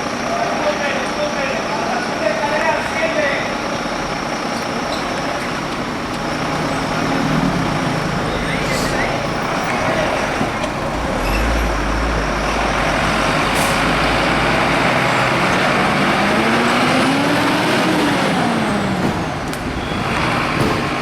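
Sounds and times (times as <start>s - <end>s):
fire truck diesel engines: 0.0s - 21.0s.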